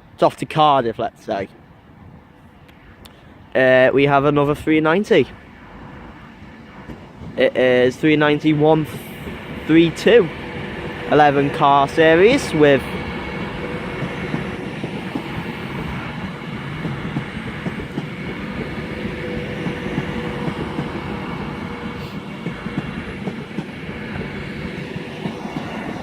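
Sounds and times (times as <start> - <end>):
electric train rumble and hum: 1.6 - 26.0.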